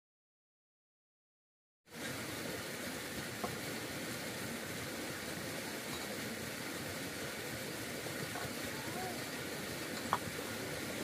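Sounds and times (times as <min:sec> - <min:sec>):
steady rushing noise: 0:01.9 - 0:11.0.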